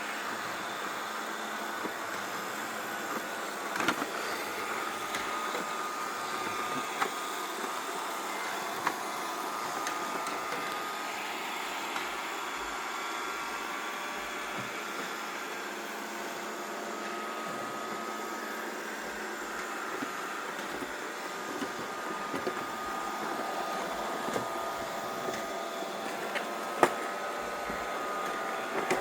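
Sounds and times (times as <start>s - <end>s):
robot vacuum cleaner humming: 0.0s - 29.0s.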